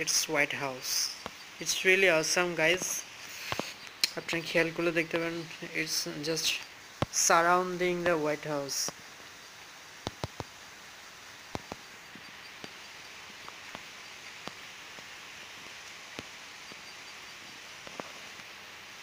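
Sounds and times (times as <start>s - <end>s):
faint hiss: 0.0s - 19.0s.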